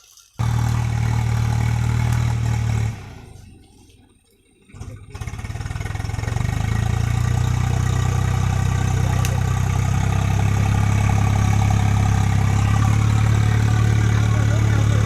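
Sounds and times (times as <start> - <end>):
diesel engine starting and running: 0.4 - 3.9, 4.6 - 15.0.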